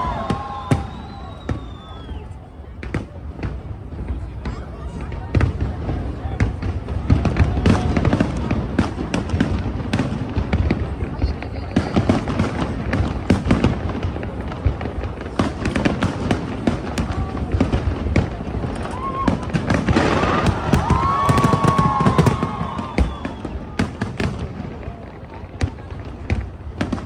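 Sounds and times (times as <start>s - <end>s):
fireworks bursting: 0.0s - 27.0s.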